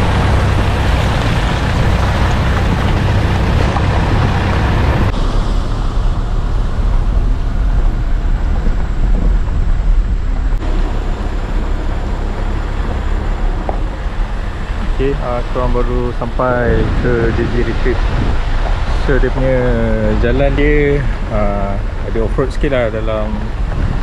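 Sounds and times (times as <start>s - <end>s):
engine rumble: 0.0s - 24.0s
tyres on gravel: 0.0s - 24.0s
wind on microphone: 0.0s - 24.0s.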